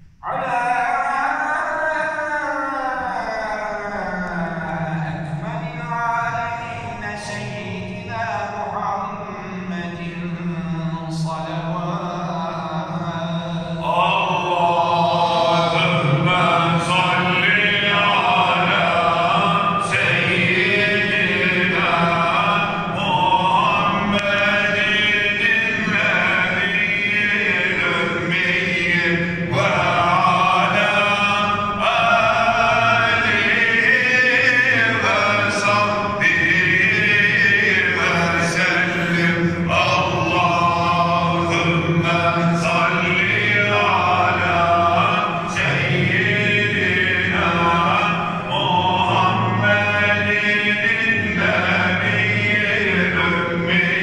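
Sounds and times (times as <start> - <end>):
man chanting religious recitation: 0.0 - 54.0.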